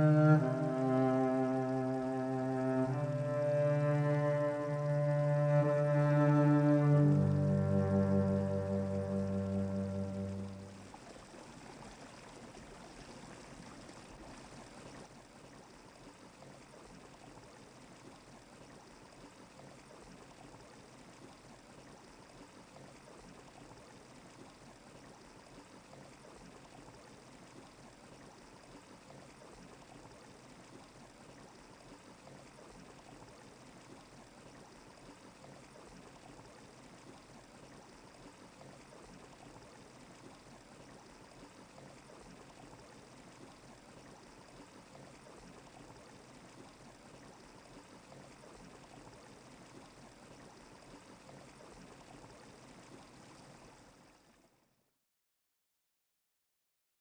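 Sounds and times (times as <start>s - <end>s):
faint steady hiss: 0.0s - 54.8s.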